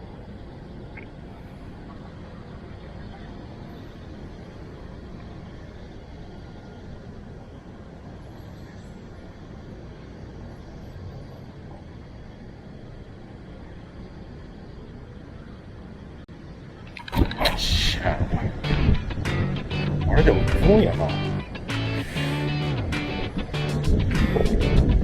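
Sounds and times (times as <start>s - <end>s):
steady rumbling noise: 0.0s - 25.0s.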